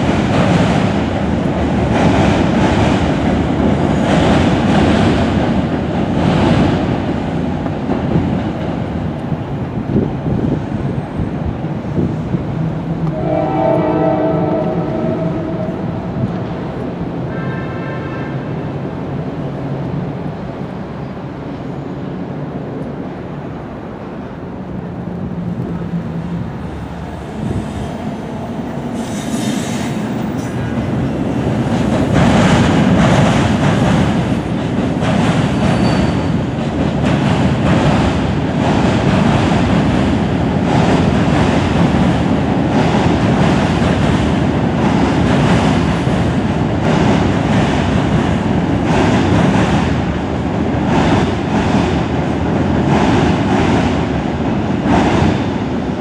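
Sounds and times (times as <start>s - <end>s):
train rumbling over a bridge: 0.0s - 56.0s.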